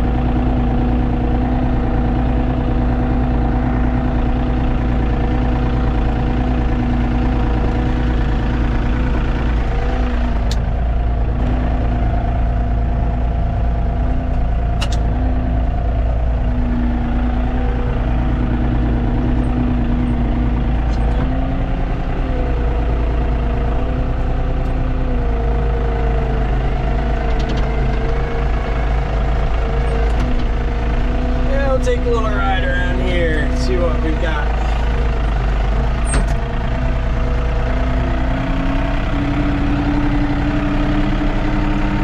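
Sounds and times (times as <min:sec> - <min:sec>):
tractor engine rumbling: 0:00.0 - 0:42.0.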